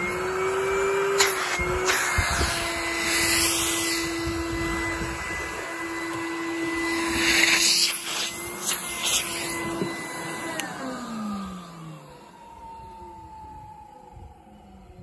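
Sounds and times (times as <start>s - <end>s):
vacuum cleaner whining: 0.0s - 15.0s
vacuum motor winding down: 0.0s - 15.0s.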